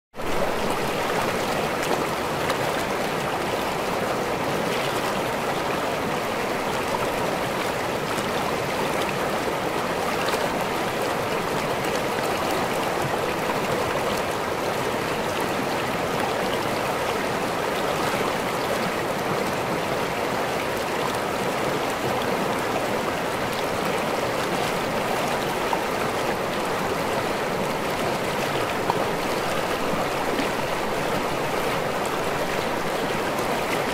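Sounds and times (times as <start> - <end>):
waterfall rushing and splashing: 0.2 - 33.9.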